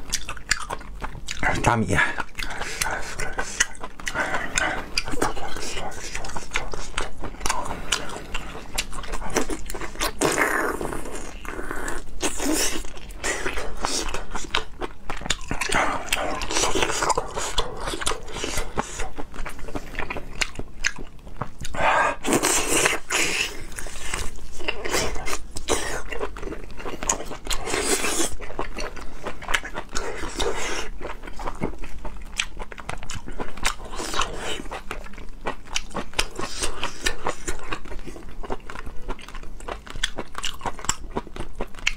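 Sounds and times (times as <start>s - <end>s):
person biting and chewing: 0.0s - 41.9s.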